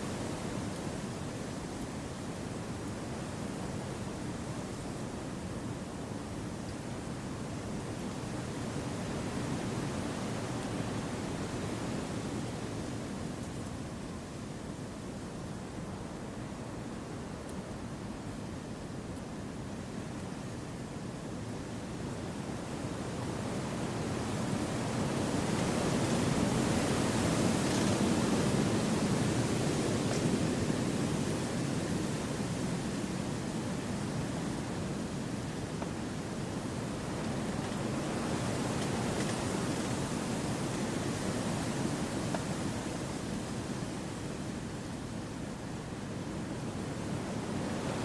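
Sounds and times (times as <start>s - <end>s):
wind rushing through trees: 0.0s - 48.0s.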